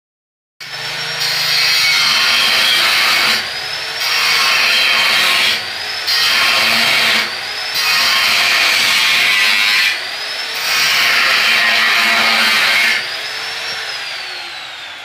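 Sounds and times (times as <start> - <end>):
angle grinder grinding metal: 0.6 - 15.0.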